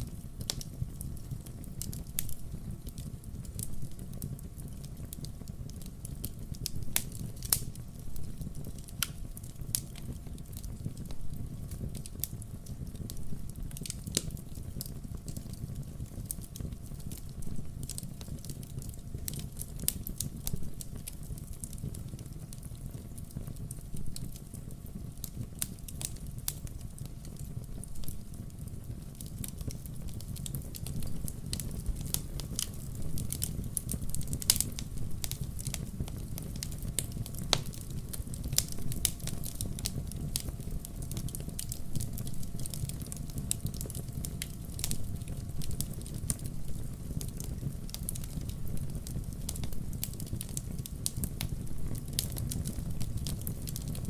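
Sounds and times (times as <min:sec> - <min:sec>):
fire crackling and popping: 0:00.0 - 0:54.0
low rumble of flame: 0:00.0 - 0:54.0.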